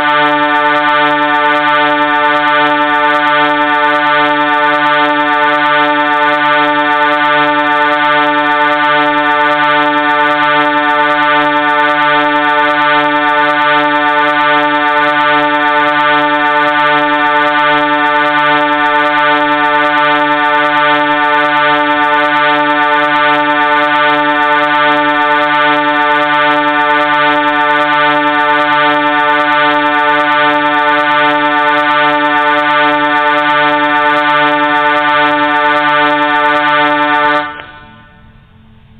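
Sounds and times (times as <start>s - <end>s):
train horn chord: 0.0s - 38.9s.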